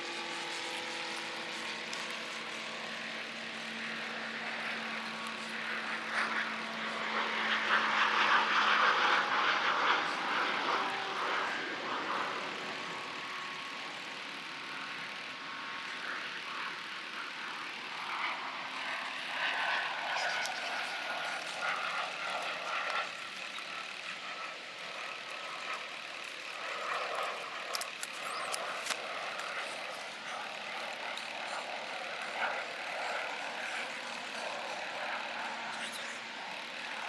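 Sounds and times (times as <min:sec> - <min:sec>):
distant engines: 0:00.0 - 0:37.0.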